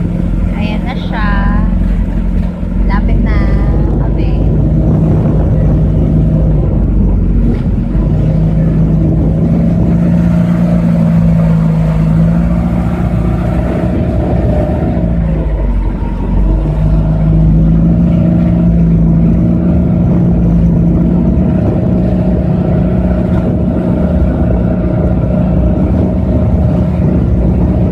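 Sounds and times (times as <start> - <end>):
motorboat engine running: 0.0 - 27.9.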